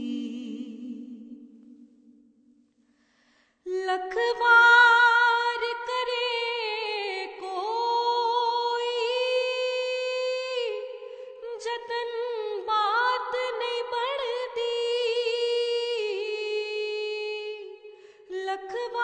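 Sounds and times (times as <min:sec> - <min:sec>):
woman singing unaccompanied: 0:00.0 - 0:01.6, 0:03.7 - 0:19.0.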